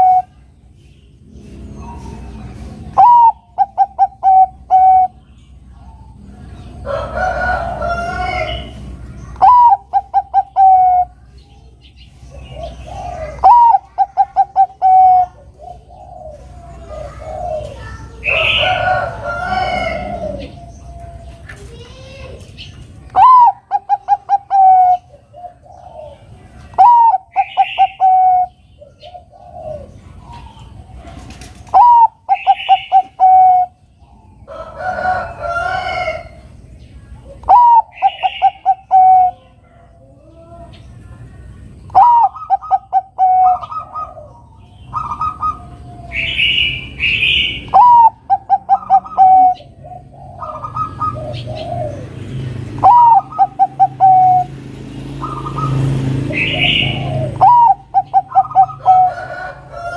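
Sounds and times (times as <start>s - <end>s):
dove cooing: 0.0s - 0.4s, 1.8s - 5.2s, 5.8s - 11.3s, 12.3s - 21.8s, 23.2s - 40.3s, 41.9s - 59.9s
faint bird calls: 1.7s - 54.5s, 55.2s - 59.9s.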